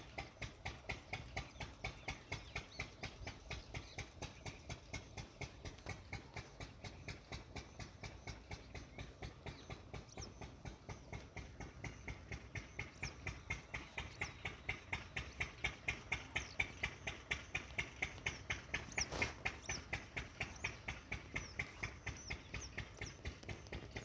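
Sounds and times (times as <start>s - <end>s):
engine chugging: 0.0s - 24.0s.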